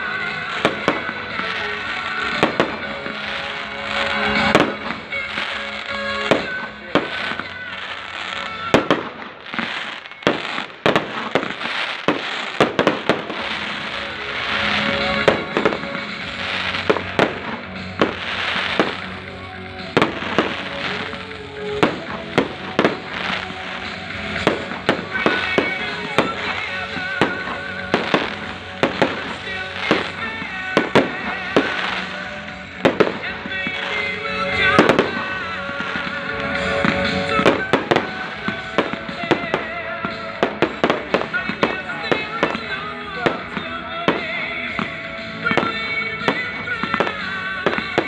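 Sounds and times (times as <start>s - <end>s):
fireworks bursting: 0.0s - 48.0s
music playing: 0.0s - 48.0s.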